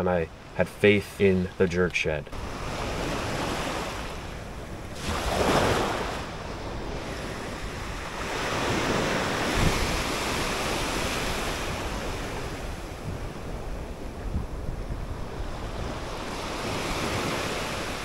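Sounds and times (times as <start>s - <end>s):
ocean surf breaking: 0.0s - 18.0s
wind on microphone: 2.4s - 18.0s.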